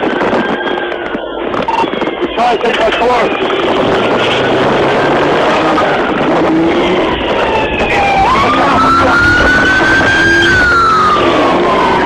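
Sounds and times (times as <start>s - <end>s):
police siren wailing: 0.0s - 12.0s
vehicle engine and road noise: 0.0s - 12.0s.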